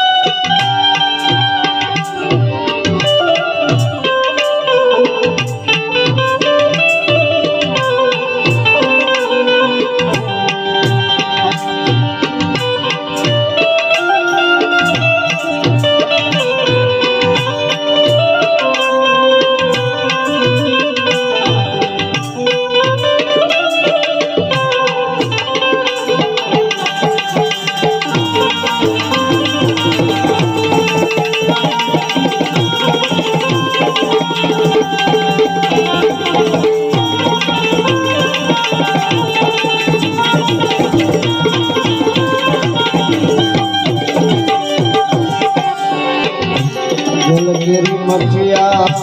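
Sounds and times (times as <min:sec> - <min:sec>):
held melodic accompaniment: 0:00.0 - 0:49.0
tabla playing steady rhythm: 0:00.0 - 0:49.0.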